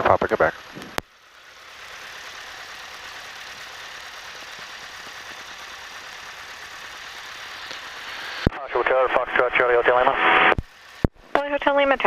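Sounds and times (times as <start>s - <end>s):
small plane engine droning: 0.0s - 12.0s.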